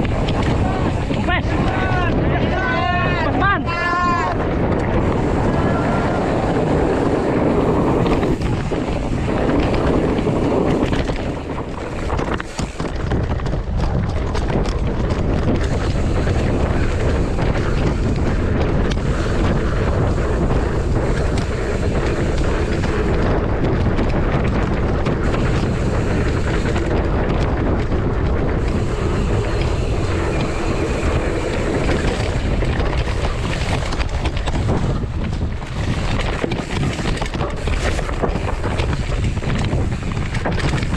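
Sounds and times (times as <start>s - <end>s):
bike clattering over rough ground: 0.0s - 40.9s
wind buffeting microphone: 0.0s - 40.9s.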